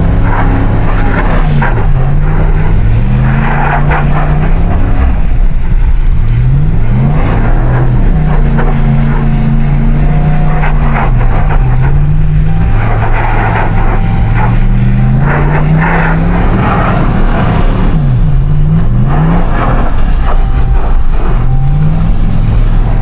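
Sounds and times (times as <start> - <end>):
pickup engine revving: 0.0 - 23.0.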